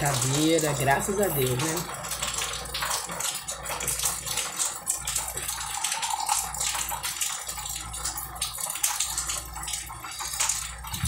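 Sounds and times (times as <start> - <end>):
water pump running: 0.0 - 11.0.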